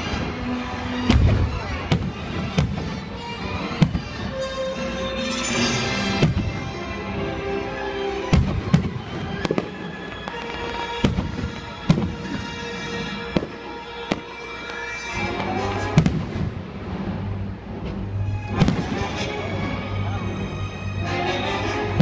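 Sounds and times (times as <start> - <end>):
fireworks bursting with sharp bangs: 0.0 - 7.3, 8.2 - 19.8
music: 0.0 - 22.0.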